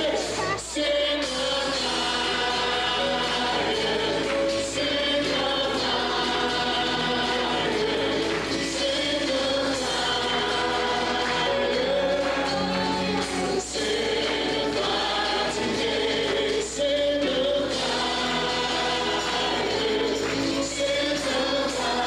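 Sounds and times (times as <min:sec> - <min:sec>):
choir singing gospel song: 0:00.0 - 0:22.0.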